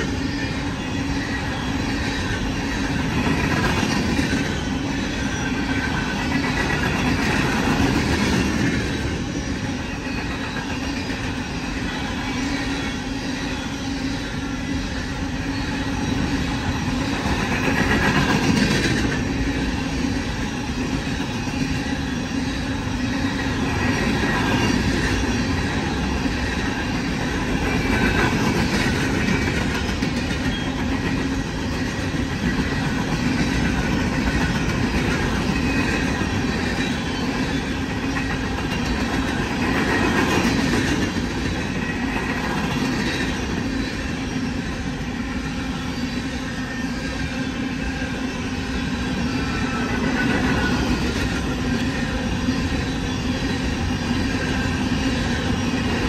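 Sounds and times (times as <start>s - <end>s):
steel wheels on rails: 0.0s - 56.0s.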